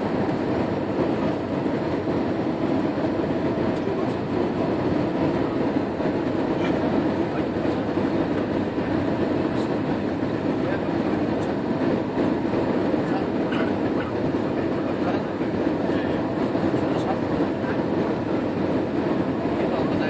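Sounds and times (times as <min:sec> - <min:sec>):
airliner engines rumbling in cabin: 0:00.0 - 0:20.0.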